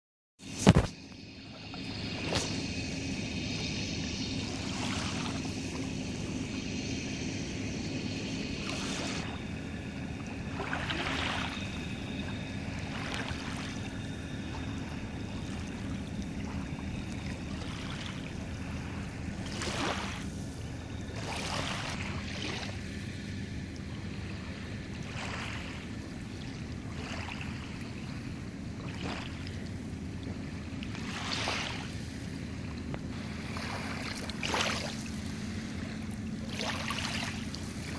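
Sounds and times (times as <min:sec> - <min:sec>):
small waves washing in: 0:00.4 - 0:37.9
steady low rumble: 0:00.4 - 0:37.9.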